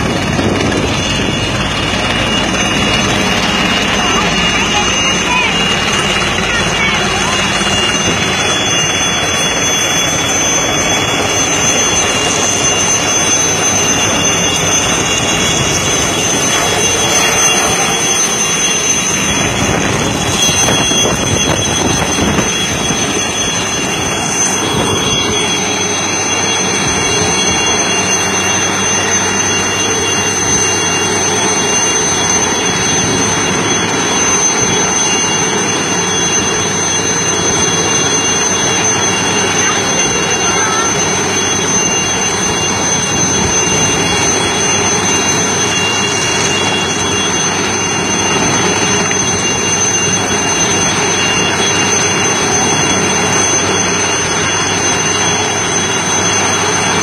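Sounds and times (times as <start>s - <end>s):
helicopter engine and rotor noise: 0.0s - 57.0s
thin high whine: 0.0s - 57.0s.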